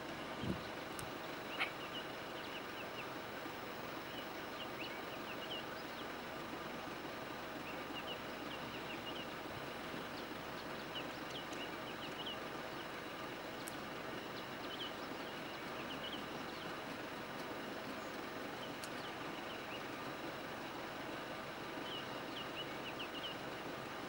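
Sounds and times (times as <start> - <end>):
small birds chirping: 0.0 - 24.0
steady background hiss: 0.0 - 24.0.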